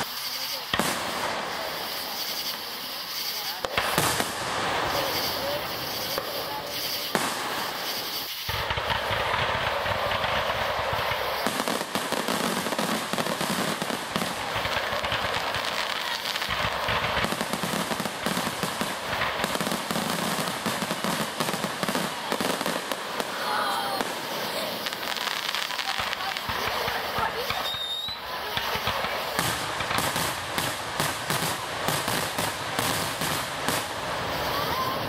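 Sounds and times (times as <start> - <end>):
fireworks bangs and crackle: 0.0 - 35.0.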